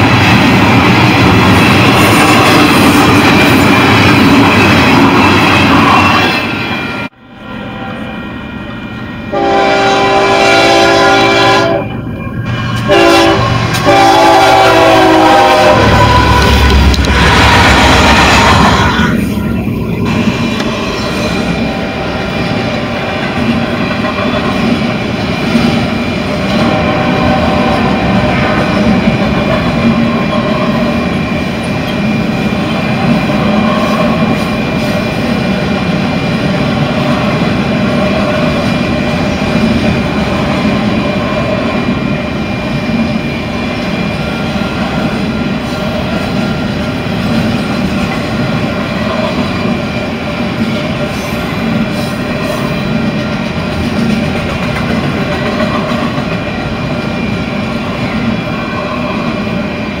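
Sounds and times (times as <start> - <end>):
freight train wheels rumbling: 0.0 - 60.0.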